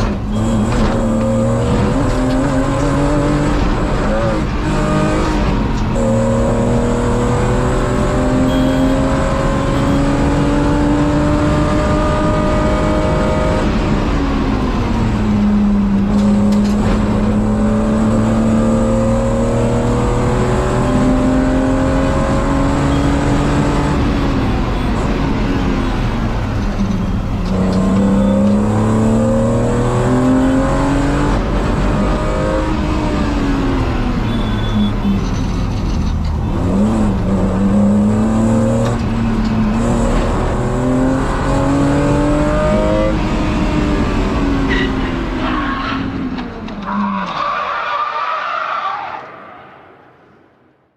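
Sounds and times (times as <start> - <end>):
car engine accelerating: 0.0 - 47.1.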